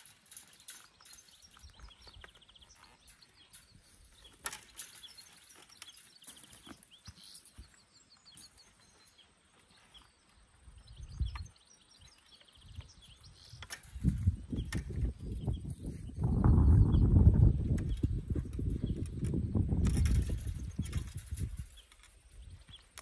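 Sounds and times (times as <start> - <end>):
high chirping trills: 0.0 - 19.1.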